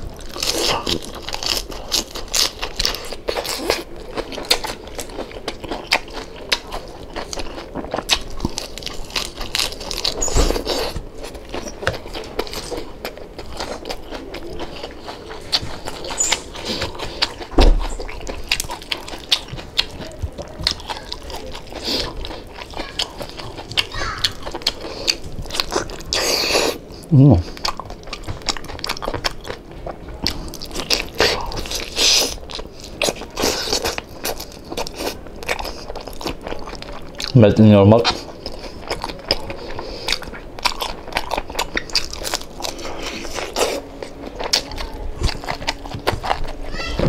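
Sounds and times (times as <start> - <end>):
chewing crispy skin: 0.0 - 47.0.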